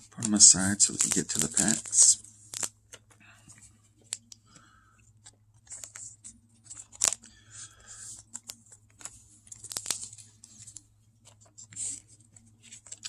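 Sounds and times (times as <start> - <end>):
cards sliding into plastic sleeves: 0.2 - 13.0.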